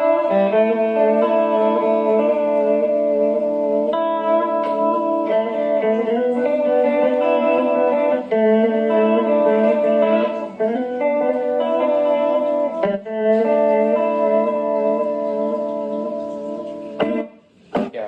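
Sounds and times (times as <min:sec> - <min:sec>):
electric guitar vibrato chords: 0:00.0 - 0:18.0.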